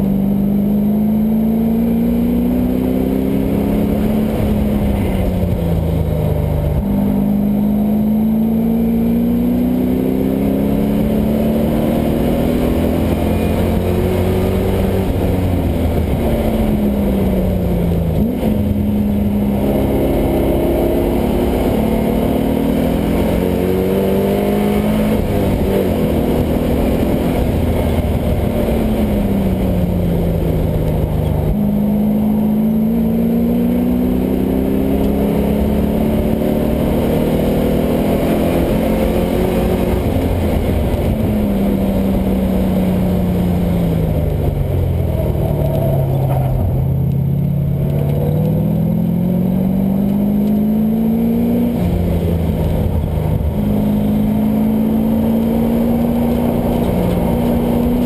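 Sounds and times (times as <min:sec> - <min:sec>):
engine revving under acceleration: 0:00.0 - 0:58.0.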